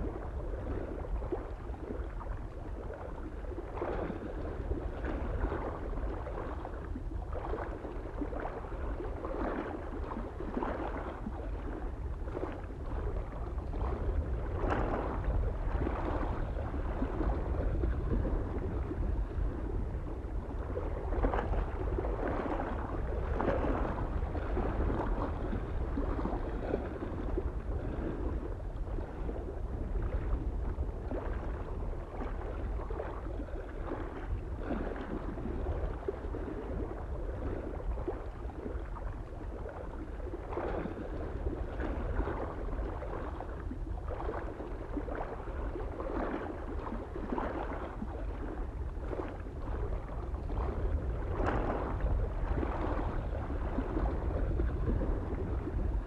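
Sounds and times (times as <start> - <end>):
low rumble of wind: 0.0 - 56.0
small waves lapping on shore: 0.0 - 56.0.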